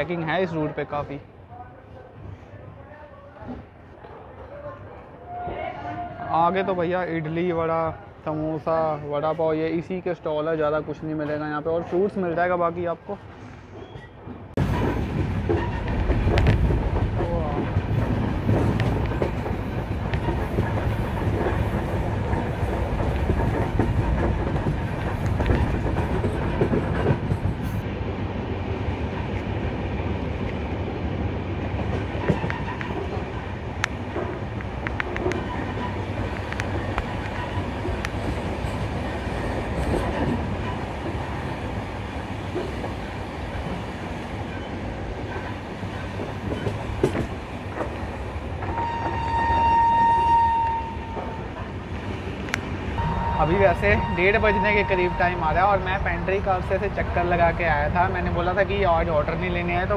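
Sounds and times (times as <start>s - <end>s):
train rumbling on the track: 0.0s - 59.9s.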